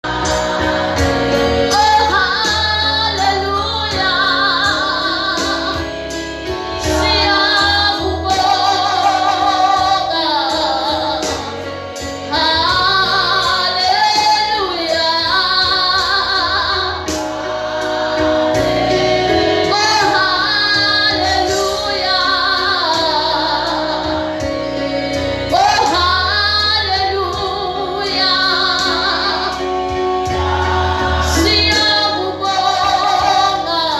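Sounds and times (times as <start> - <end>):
instrumental accompaniment with bass: 0.0 - 33.9
woman singing with vibrato: 1.6 - 5.9, 6.8 - 17.5, 19.0 - 33.9.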